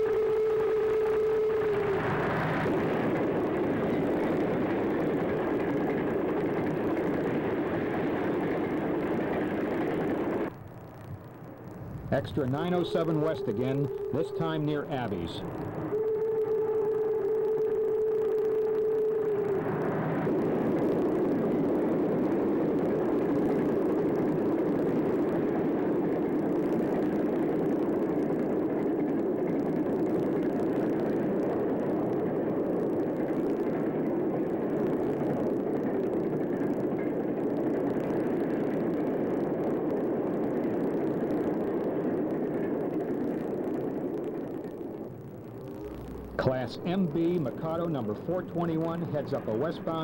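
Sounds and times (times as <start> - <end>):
freight train rumbling on rails: 0.0 - 50.0.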